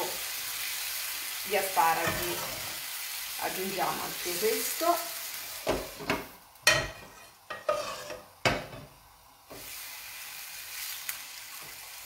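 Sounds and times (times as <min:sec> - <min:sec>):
meat sizzling in pan: 0:00.0 - 0:12.0.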